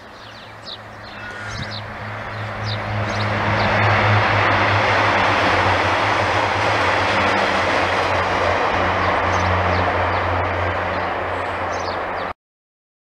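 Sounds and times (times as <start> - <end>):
diesel engine hum: 0.0 - 12.3.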